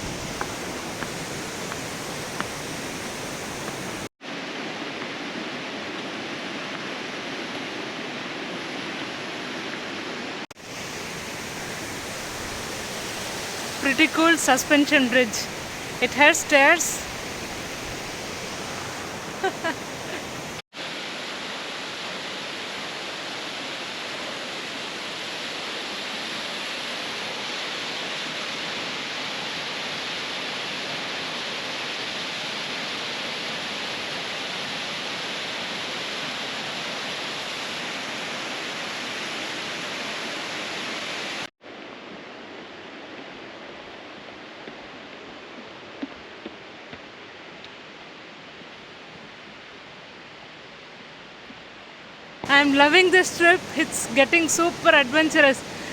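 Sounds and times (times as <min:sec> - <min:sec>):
waterfall water rushing: 0:00.0 - 0:41.5, 0:52.4 - 0:55.9.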